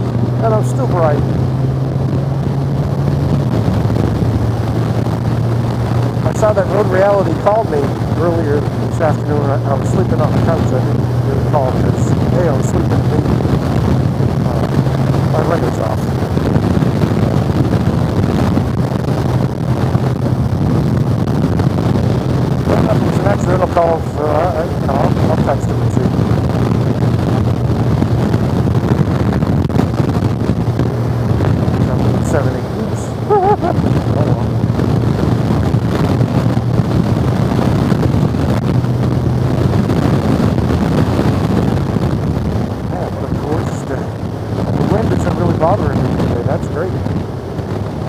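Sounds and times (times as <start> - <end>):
motorcycle engine hum: 0.0 - 48.0
wind rushing over microphone: 0.0 - 48.0.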